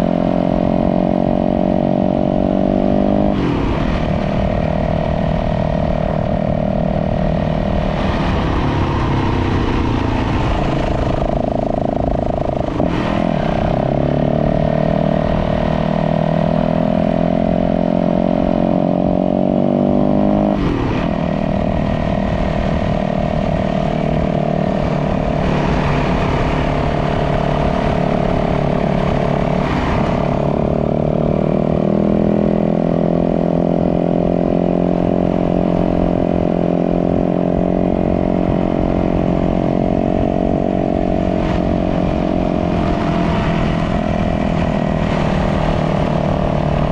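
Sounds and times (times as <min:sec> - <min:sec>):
dirt bike engine running: 0:01.6 - 0:46.9.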